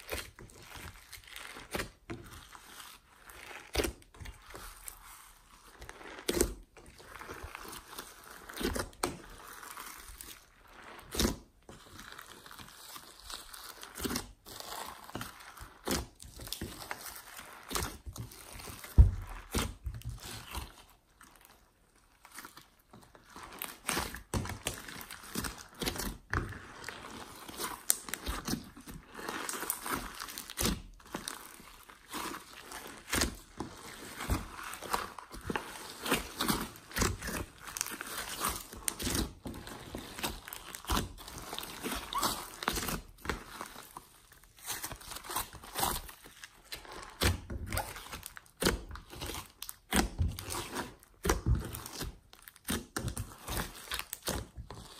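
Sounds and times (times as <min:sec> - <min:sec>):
slime squelching: 0:00.0 - 0:54.9.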